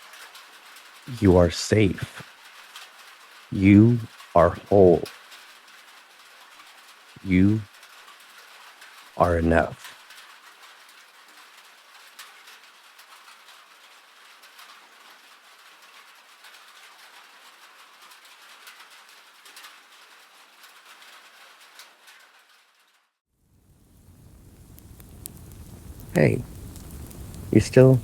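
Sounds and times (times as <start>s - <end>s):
gentle rain hiss: 0.0s - 28.0s.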